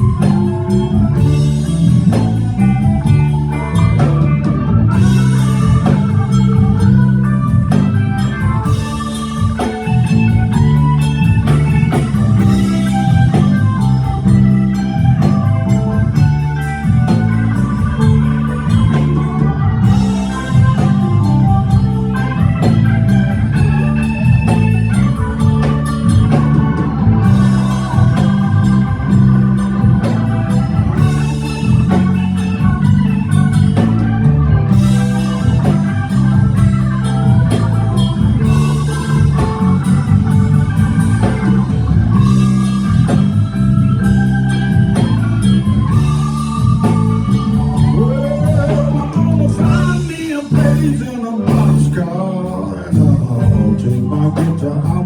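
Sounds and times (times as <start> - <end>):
bass line: 0.0 - 55.0
drums: 0.0 - 55.0
electric guitar: 0.0 - 55.0
organ: 0.0 - 55.0.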